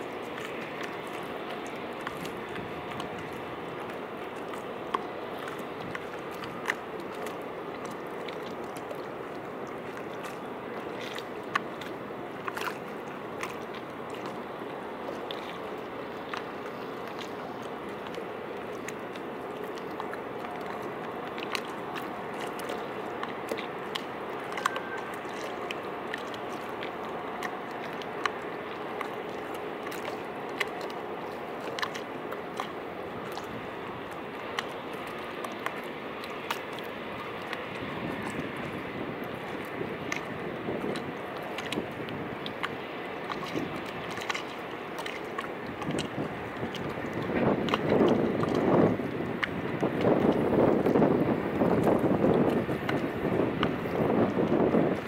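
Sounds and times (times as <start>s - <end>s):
small waves lapping on steps: 0.0s - 55.0s.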